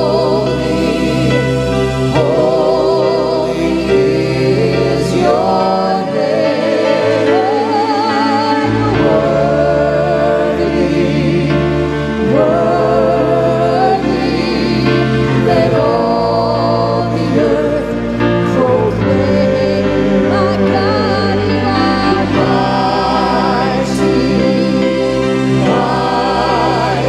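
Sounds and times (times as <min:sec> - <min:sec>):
group singing gospel song: 0:00.0 - 0:27.0
instrumental accompaniment: 0:00.0 - 0:27.0.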